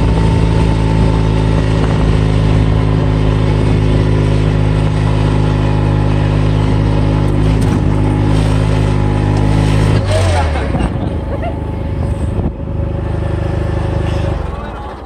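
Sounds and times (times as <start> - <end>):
wind noise: 0.0 - 13.5
engine running steadily: 0.0 - 15.0.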